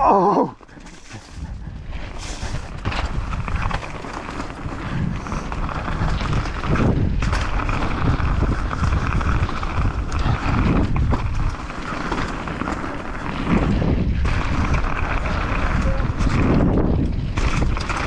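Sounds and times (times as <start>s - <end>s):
bike rattling: 0.0s - 18.0s
wind buffeting microphone: 0.7s - 18.0s.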